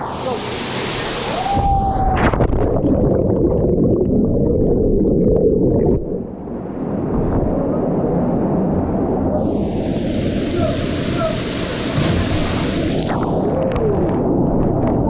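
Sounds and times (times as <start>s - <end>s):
muffled underwater rumble and gurgling: 1.1s - 15.0s.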